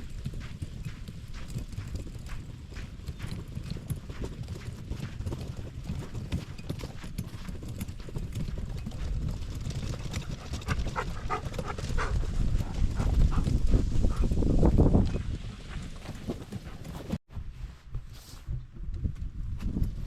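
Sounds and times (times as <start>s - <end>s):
footsteps on soft ground: 0.0s - 9.7s, 10.9s - 20.0s
wind rumble on microphone: 0.0s - 20.0s.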